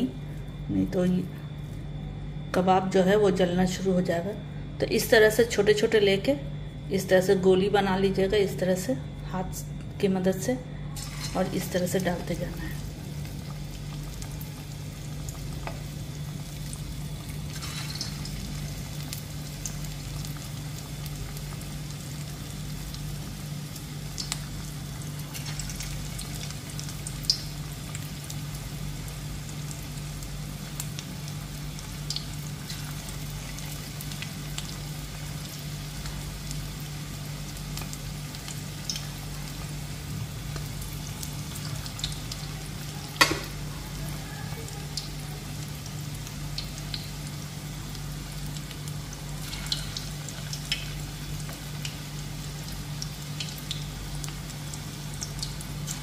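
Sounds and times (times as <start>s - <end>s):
low steady hum: 0.0s - 56.0s
sizzling hiss of deep-frying: 10.9s - 56.0s.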